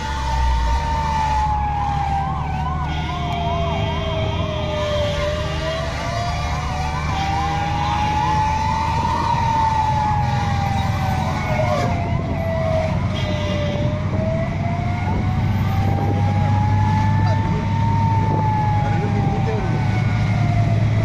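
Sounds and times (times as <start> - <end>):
engines and road traffic rumble: 0.0 - 21.0
wailing siren: 0.0 - 21.0
yelping siren: 0.0 - 21.0.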